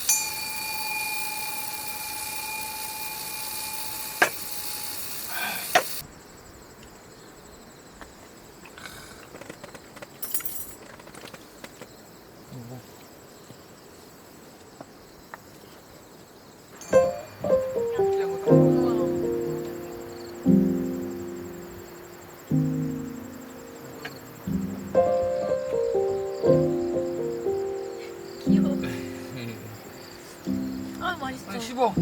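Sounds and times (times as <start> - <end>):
outdoor background: 0.0 - 32.0.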